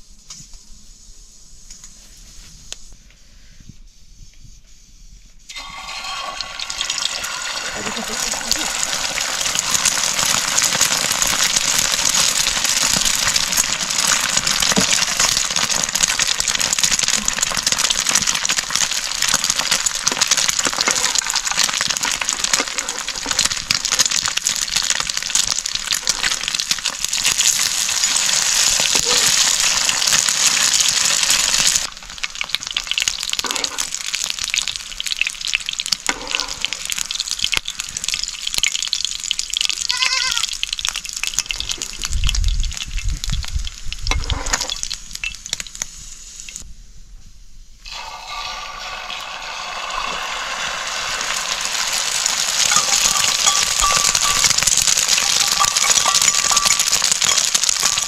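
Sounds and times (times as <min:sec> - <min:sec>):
food sizzling in hot oil: 0:05.5 - 0:46.6, 0:47.8 - 0:58.0.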